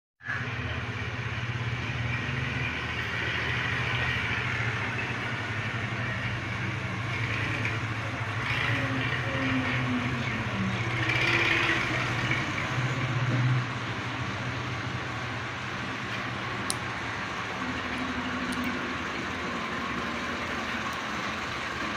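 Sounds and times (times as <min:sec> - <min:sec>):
low engine hum: 0:00.3 - 0:21.9.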